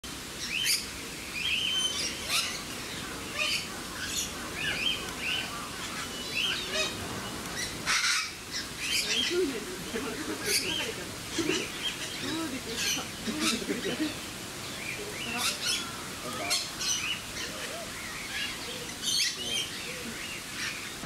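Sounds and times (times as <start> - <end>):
birds chirping: 0.2 - 21.0.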